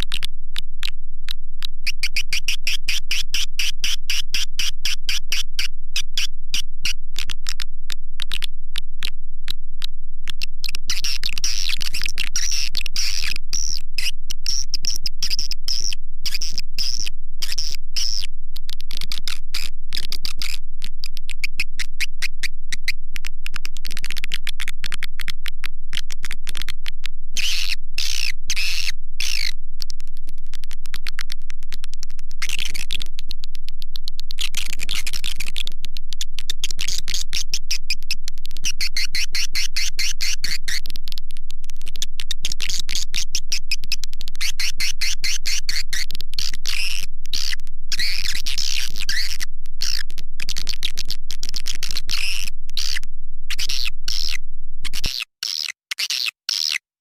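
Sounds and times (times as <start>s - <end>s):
steady low hum: 0.0s - 55.1s
bird clicking chirps and twitters: 1.6s - 7.6s, 10.3s - 25.3s, 27.4s - 29.9s, 30.9s - 41.2s, 41.8s - 56.8s.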